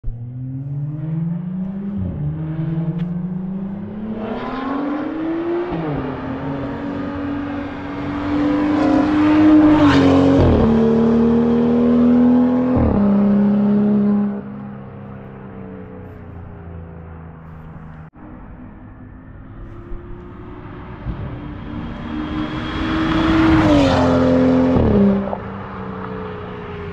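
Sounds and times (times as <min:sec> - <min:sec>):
car engine accelerating hard: 0:00.0 - 0:15.2, 0:19.6 - 0:26.9.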